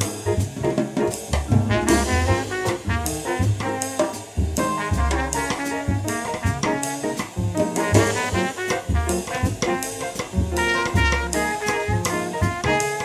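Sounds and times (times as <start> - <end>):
drum kit cymbal strokes: 0.0 - 12.8
double bass: 0.0 - 13.0
upright piano: 0.0 - 13.0
trumpet melody: 1.6 - 9.9, 10.6 - 13.0.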